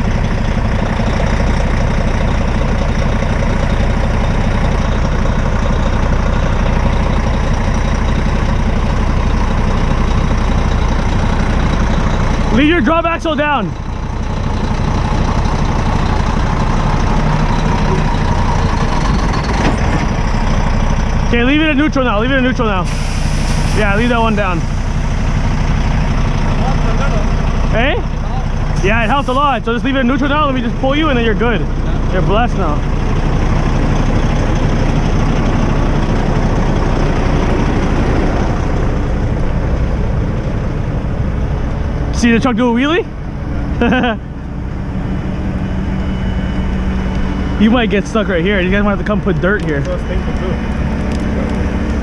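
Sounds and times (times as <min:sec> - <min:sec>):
truck diesel engine idling: 0:00.0 - 0:52.0.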